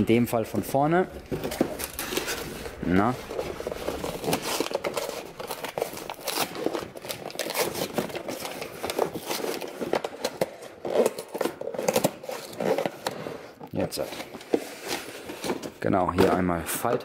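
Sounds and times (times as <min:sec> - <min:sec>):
plastic packaging crinkling: 0:00.6 - 0:15.8.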